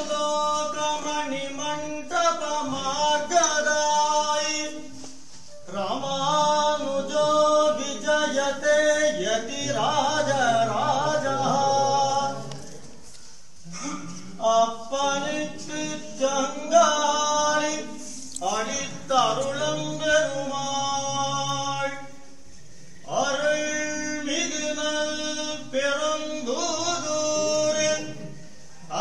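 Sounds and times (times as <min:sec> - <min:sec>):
person singing unaccompanied: 0:00.0 - 0:12.9, 0:14.4 - 0:22.4, 0:23.1 - 0:29.0.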